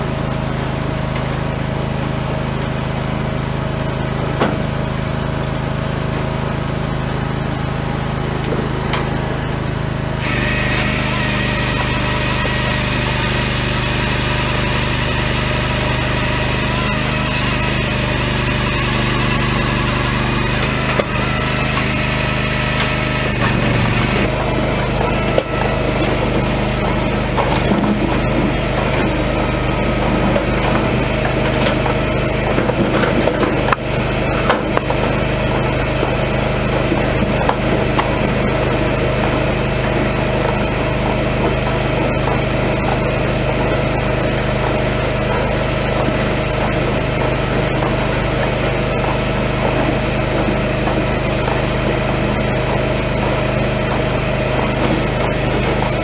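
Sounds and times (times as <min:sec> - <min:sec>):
firewood processor drone: 0:00.0 - 0:56.0.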